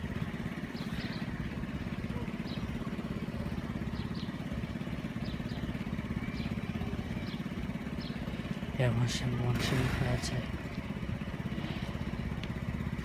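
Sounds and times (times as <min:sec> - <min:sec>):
diesel train engine idling: 0:00.0 - 0:13.0.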